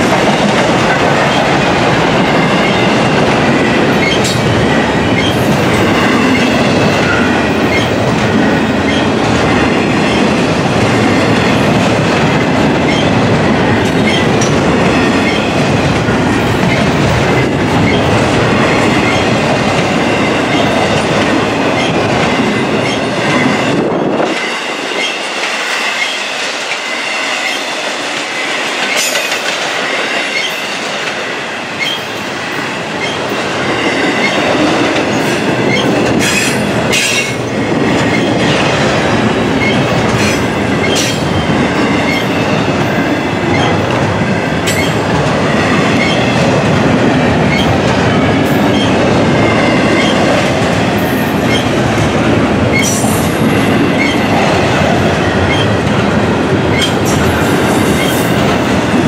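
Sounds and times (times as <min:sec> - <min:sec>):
train wheels rumbling and clacking: 0:00.0 - 0:59.0.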